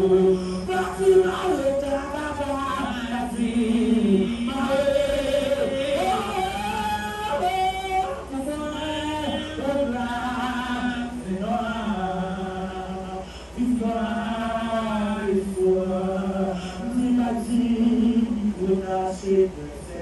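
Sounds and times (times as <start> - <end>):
voices singing worship song: 0.0 - 20.0.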